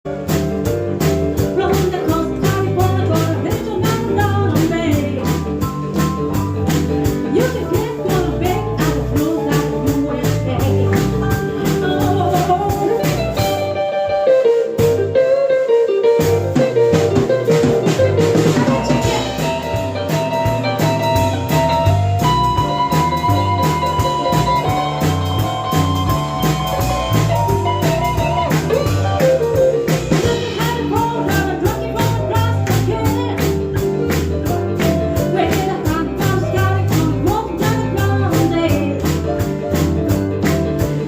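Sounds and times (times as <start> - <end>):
bass: 0.0 - 41.0
drums keeping a steady beat: 0.0 - 41.0
guitar: 0.0 - 41.0.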